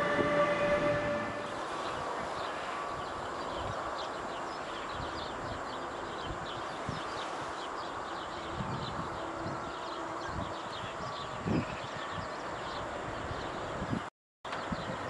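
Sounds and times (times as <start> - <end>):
wind rumble: 0.0 - 15.0
small birds chirping: 1.5 - 15.0.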